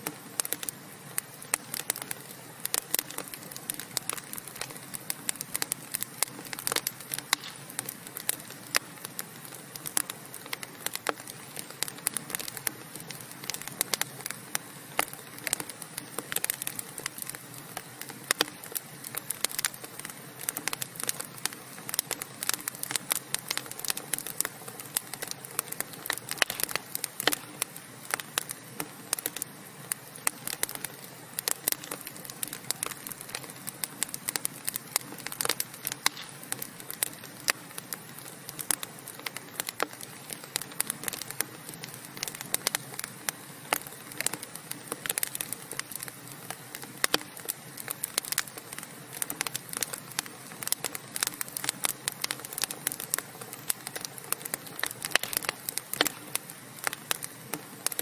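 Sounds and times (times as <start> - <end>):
fire hissing: 0.0 - 58.0
wood fire crackling and popping: 0.0 - 58.0.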